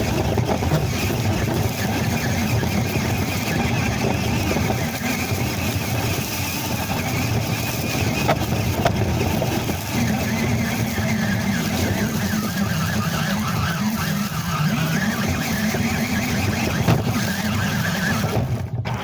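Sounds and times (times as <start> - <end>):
rc truck drivetrain rumble: 0.0 - 19.0
wind on microphone: 0.0 - 19.0.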